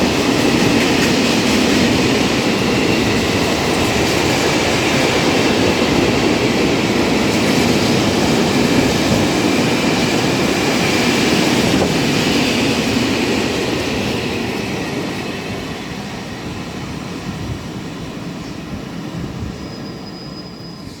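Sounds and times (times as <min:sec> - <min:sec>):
train passing on track: 0:00.0 - 0:21.0.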